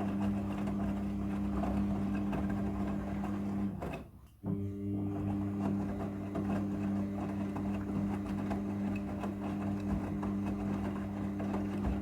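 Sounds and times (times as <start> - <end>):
washing machine humming: 0.0 - 3.9, 4.5 - 12.0.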